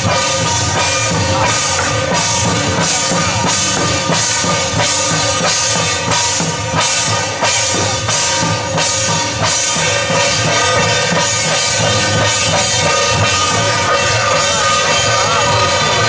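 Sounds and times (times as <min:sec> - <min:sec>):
drum beaten with sticks: 0:00.0 - 0:16.0
hand cymbals crashing: 0:00.0 - 0:16.0.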